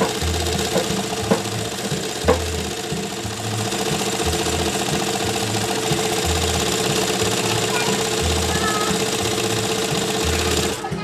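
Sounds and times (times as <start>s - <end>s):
bobbin winder spinning: 0.0s - 11.0s
sewing machine running: 0.0s - 11.0s.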